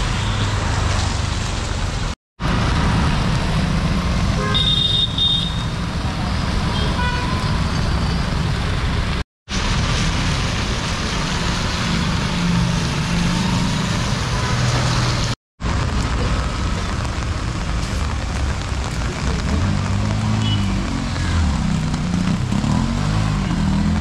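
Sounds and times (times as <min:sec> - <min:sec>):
heavy rain on wet street: 0:00.0 - 0:07.7, 0:08.3 - 0:24.0
vehicles passing in traffic: 0:00.0 - 0:24.0.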